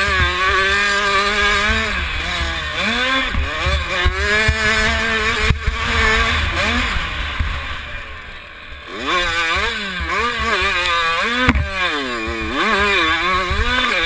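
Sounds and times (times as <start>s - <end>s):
two-stroke motorbike engine revving: 0.0s - 14.0s.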